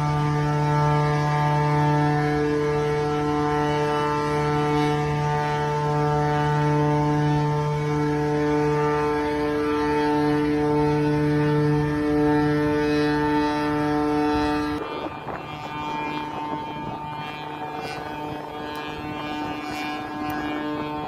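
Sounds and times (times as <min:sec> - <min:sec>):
ship's low drone: 0:00.0 - 0:21.0
wind: 0:00.0 - 0:21.0.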